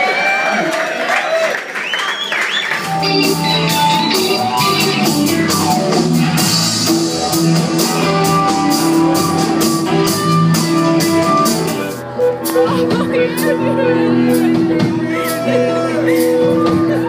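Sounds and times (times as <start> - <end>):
live rock band playing: 2.7 - 17.0
drum kit beat: 2.8 - 17.0.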